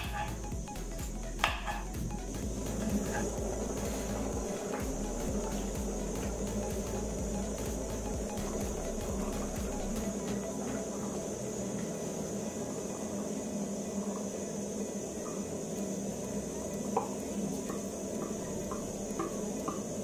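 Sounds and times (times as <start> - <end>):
pot boiling: 0.0 - 20.0.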